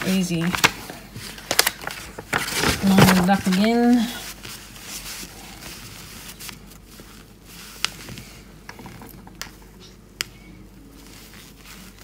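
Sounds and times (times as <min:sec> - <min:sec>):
paper and fabric rustling: 0:00.0 - 0:10.0, 0:10.6 - 0:12.0.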